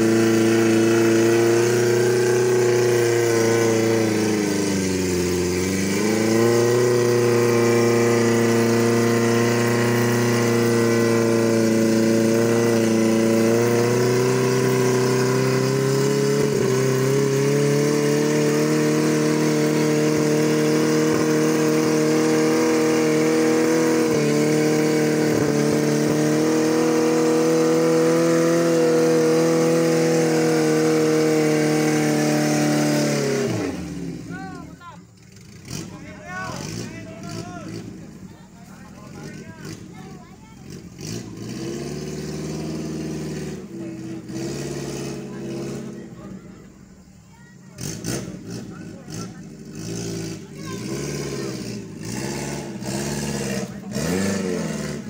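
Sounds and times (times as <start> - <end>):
engine revving under heavy load: 0.0 - 55.0.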